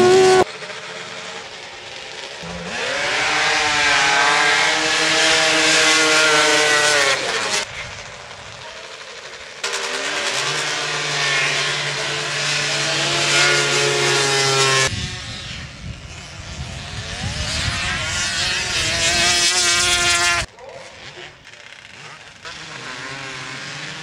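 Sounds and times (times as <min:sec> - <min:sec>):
atv engines at full throttle: 0:00.0 - 0:24.0.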